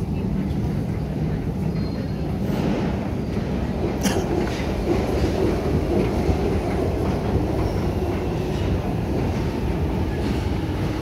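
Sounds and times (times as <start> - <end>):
escalator machinery rumbling: 0.0 - 11.0.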